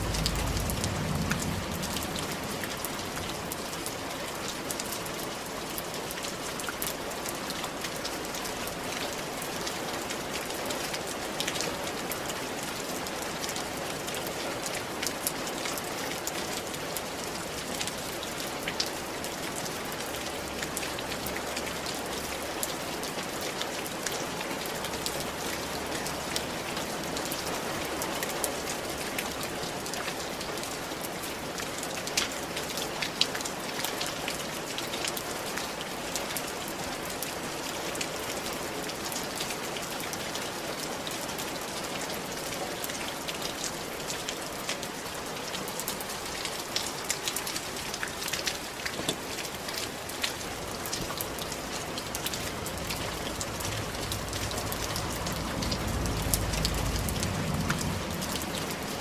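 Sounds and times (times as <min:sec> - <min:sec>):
rain on a tiled roof: 0:00.0 - 0:59.0.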